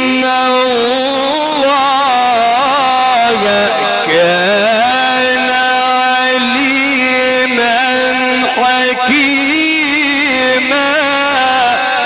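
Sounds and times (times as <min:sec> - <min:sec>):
man chanting melodic recitation: 0:00.0 - 0:12.0.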